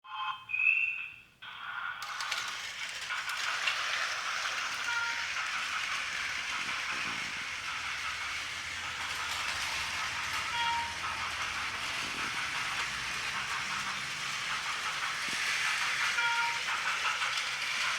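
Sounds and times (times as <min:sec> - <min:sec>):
toy trains rattling on track: 0:01.4 - 0:17.9.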